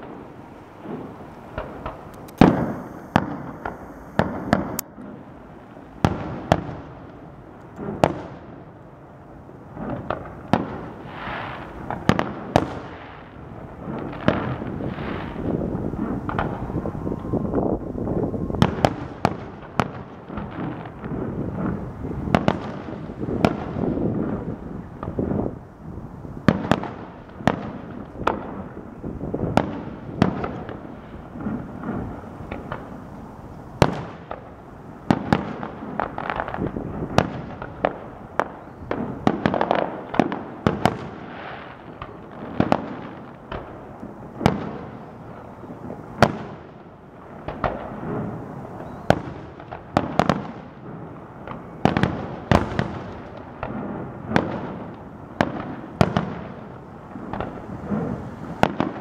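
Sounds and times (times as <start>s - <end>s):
fireworks bangs: 0.0s - 59.0s
low rumble of fireworks: 0.0s - 59.0s.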